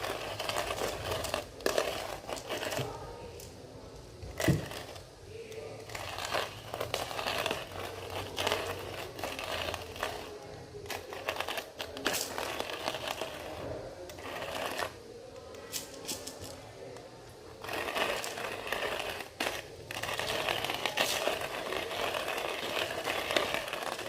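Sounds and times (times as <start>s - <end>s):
coffee grinder crushing beans: 0.0s - 3.0s, 4.4s - 5.1s, 5.7s - 15.0s, 17.5s - 24.0s.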